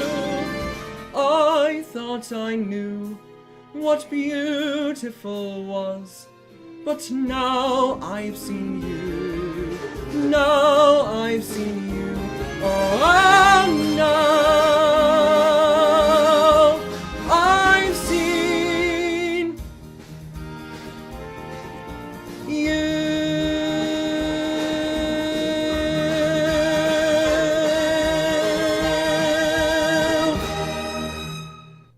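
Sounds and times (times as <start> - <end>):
person singing with vibrato: 0.0 - 19.6, 22.4 - 31.2
ballad accompaniment: 0.0 - 31.9.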